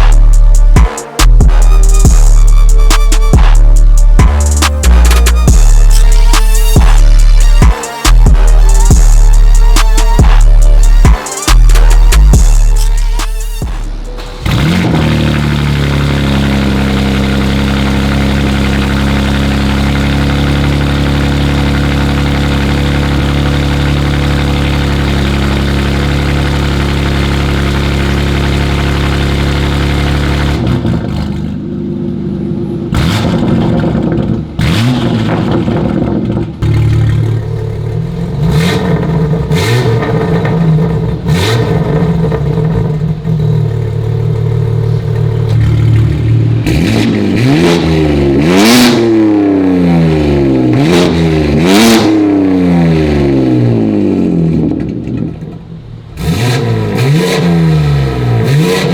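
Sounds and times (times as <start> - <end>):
car engine idling and revving: 0.0 - 58.9.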